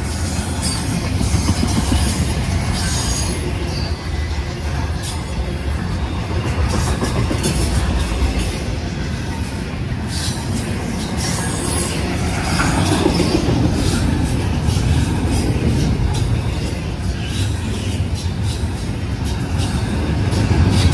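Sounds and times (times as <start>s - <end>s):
train wheels rumbling on track: 0.0s - 20.9s.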